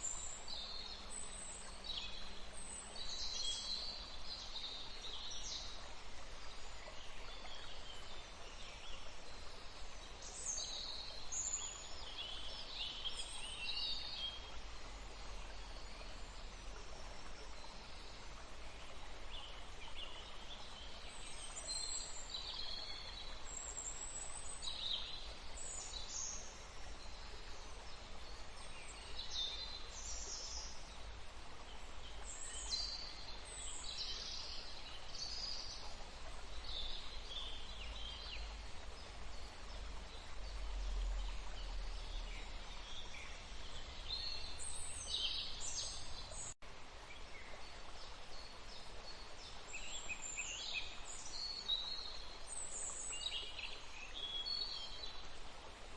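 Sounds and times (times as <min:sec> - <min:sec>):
background hiss: 0:00.0 - 0:55.9.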